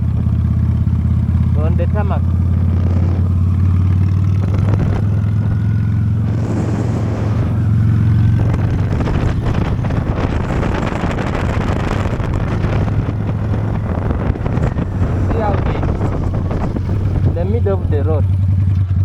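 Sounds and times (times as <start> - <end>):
motorcycle engine running: 0.0 - 19.0
wind rushing over microphone: 0.9 - 18.4.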